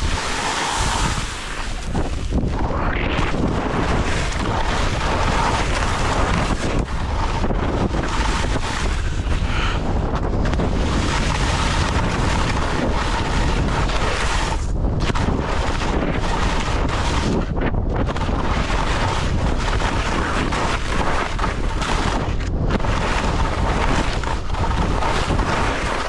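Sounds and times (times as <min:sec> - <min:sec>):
skis scraping on snow: 0:00.0 - 0:26.0
wind buffeting microphone: 0:00.0 - 0:26.0.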